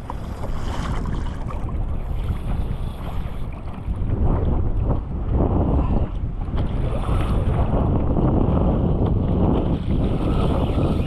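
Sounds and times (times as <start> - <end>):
water splashing against kayak hull: 0.0 - 11.0
wind buffeting microphone: 0.0 - 11.0.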